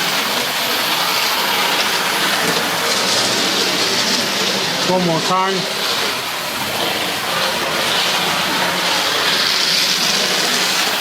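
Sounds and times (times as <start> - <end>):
model locomotive running on track: 0.0 - 11.0.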